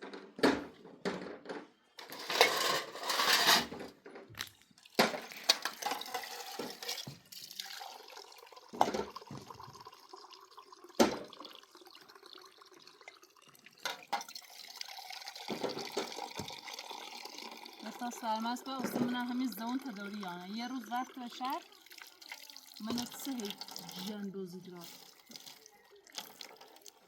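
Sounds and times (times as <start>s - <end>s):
water splashing and pouring: 4.4s - 27.0s.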